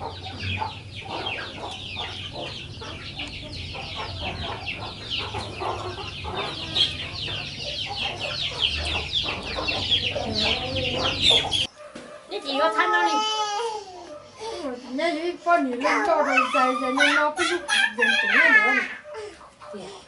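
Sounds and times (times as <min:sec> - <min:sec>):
chickens peeping: 0:00.0 - 0:13.0, 0:14.0 - 0:20.0.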